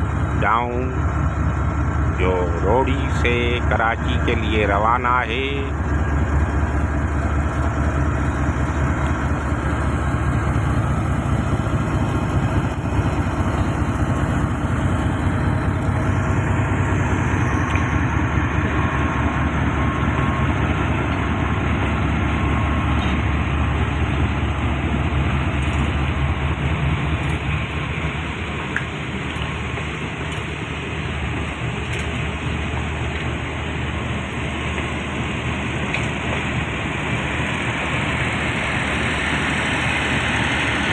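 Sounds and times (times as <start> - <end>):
diesel locomotive engine throbbing: 0.0 - 40.9.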